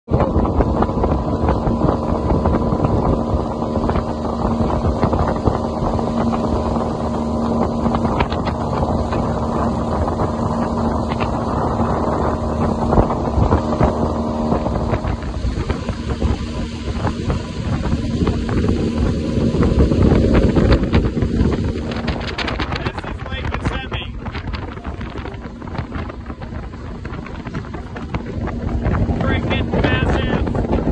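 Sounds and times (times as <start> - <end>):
outboard motor running: 0.1 - 30.9
wind buffeting microphone: 0.1 - 30.9.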